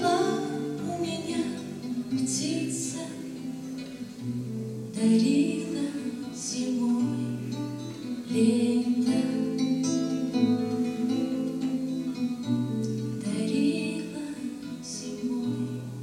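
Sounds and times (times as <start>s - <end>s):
woman singing: 0.0s - 3.6s, 4.9s - 11.8s, 13.1s - 16.0s
acoustic guitar strumming: 0.0s - 16.0s.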